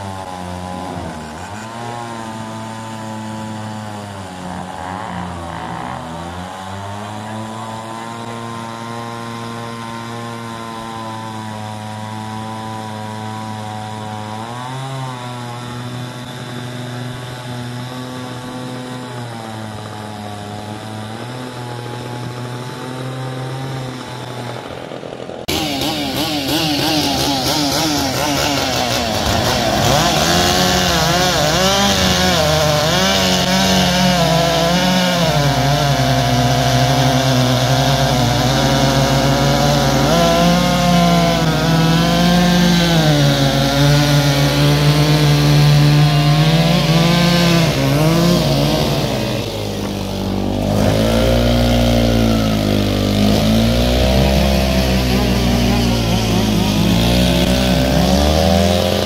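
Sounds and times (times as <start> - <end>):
chainsaws cutting logs: 0.0 - 59.0
lower-pitched chainsaw: 0.0 - 59.0.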